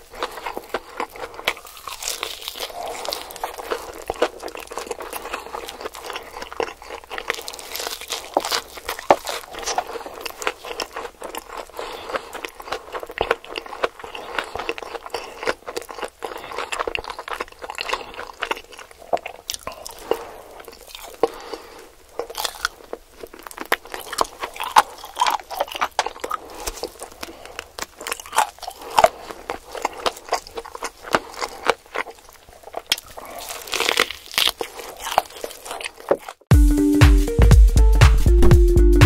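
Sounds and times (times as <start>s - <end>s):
person chewing and crunching food: 0.0s - 36.6s.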